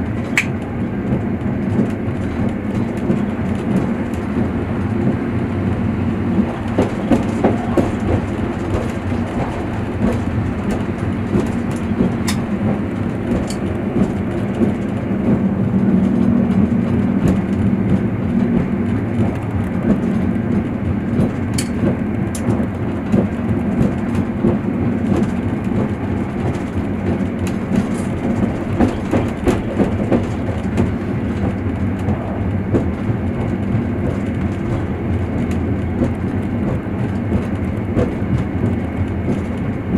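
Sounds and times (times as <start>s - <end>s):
train rumble inside carriage: 0.0s - 39.9s
wheels clicking over rail joints: 0.0s - 39.9s.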